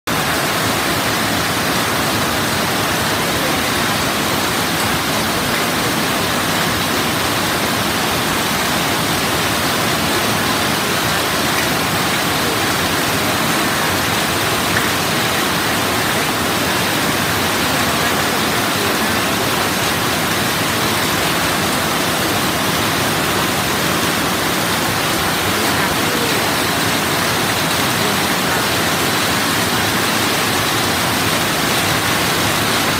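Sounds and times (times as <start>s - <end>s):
heavy rain on roofs and pavement: 0.0s - 32.9s.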